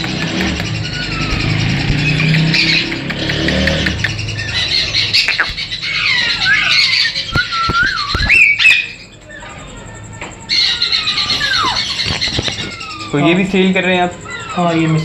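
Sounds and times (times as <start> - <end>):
parrots squawking and whistling: 0.0 - 15.0.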